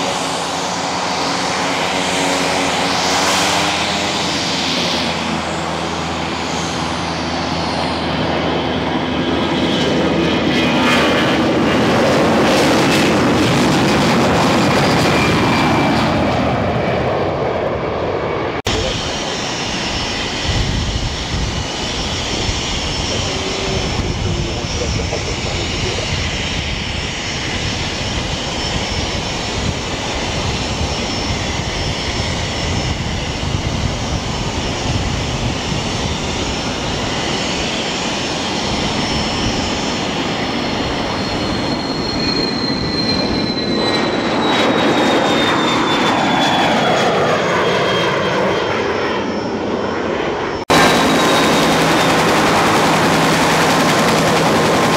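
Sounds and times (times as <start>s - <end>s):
high engine whine: 0.0s - 54.9s
jet engines running: 0.0s - 54.9s.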